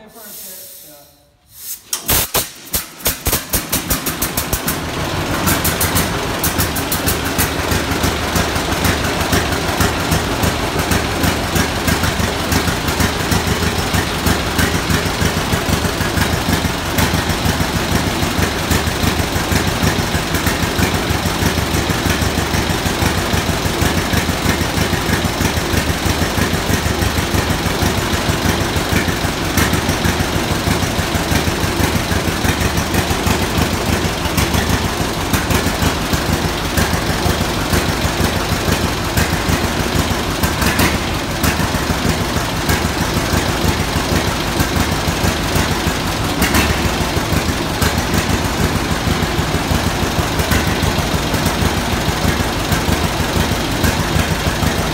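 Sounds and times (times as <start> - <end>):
tractor engine idling: 0.0 - 54.9.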